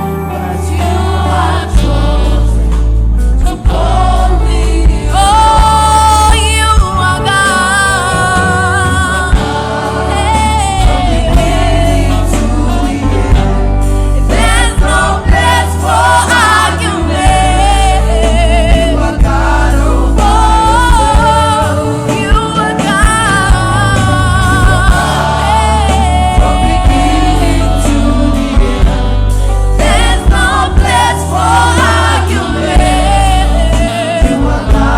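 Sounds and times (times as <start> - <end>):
gospel choir singing: 0.0 - 34.9
heavy bass: 0.0 - 34.9.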